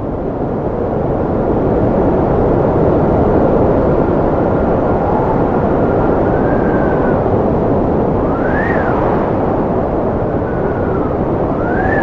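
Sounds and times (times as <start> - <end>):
faint whistling of wind: 0.0 - 12.0
strong wind blowing: 0.0 - 12.0.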